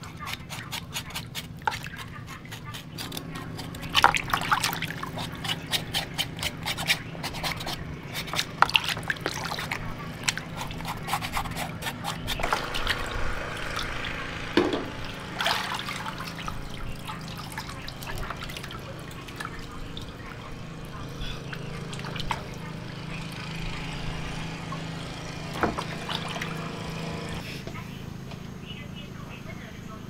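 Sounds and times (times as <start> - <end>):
water sloshing and splashing: 0.0 - 23.5, 24.7 - 27.4
steady low hum: 0.0 - 30.0.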